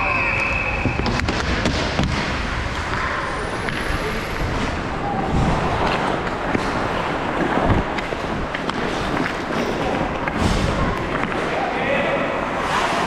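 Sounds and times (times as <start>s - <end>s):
rink noisy hum: 1.1s - 13.0s.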